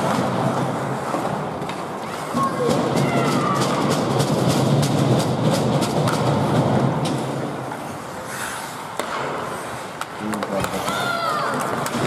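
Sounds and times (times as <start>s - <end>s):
hockey sticks and puck clacking: 0.0s - 12.0s
skate blades scraping ice: 0.0s - 12.0s.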